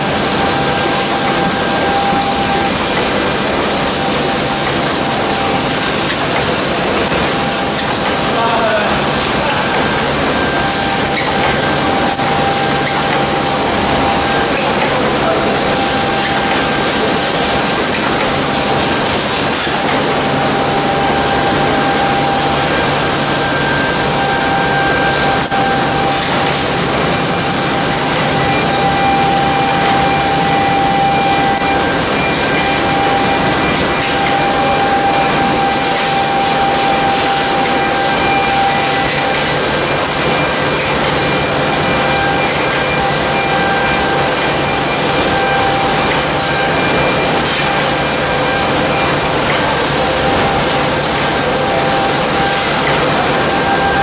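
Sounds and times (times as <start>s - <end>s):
factory machinery din: 0.0s - 54.0s
machine humming and whining tones: 0.0s - 54.0s.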